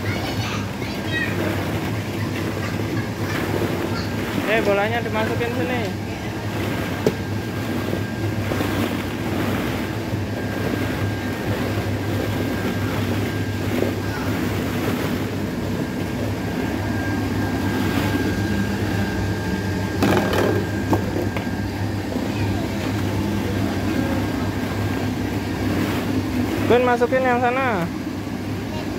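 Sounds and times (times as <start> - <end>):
air blowers droning: 0.0 - 28.9.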